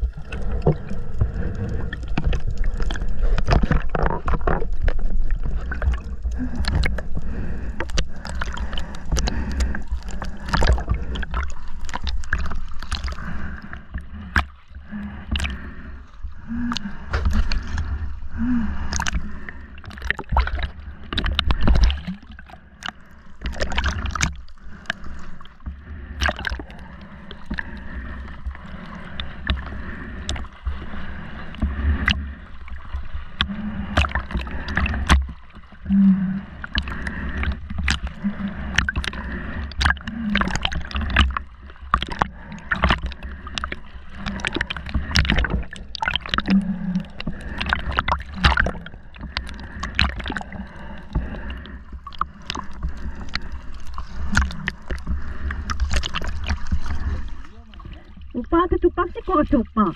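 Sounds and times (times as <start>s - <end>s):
sharp underwater clicks and crackles: 0.0s - 59.9s
underwater rumble of moving water: 0.0s - 59.9s.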